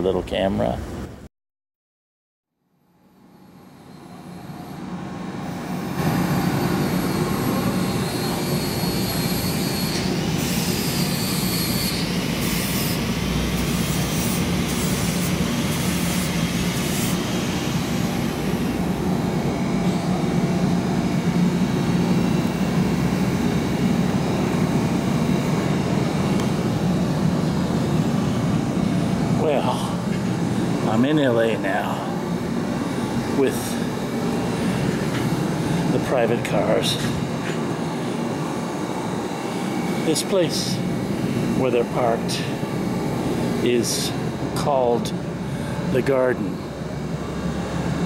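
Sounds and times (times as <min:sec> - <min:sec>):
high whining tones: 0:03.2 - 0:44.6
engine drone: 0:03.3 - 0:48.0.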